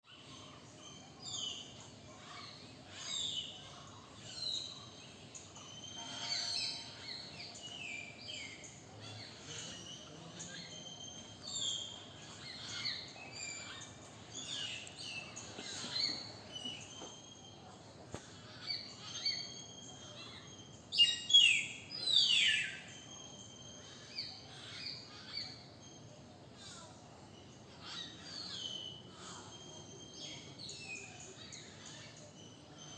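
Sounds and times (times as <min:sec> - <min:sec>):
faint background noise: 0:00.0 - 0:32.9
birds chirping and whistling: 0:00.1 - 0:26.2, 0:27.2 - 0:32.9.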